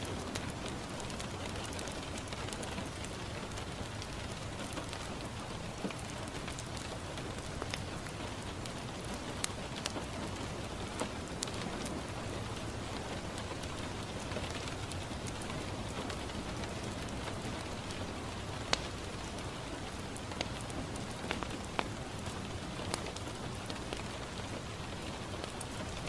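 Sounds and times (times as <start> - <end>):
rain on a window: 0.0 - 26.0
wood fire crackling: 0.0 - 26.0.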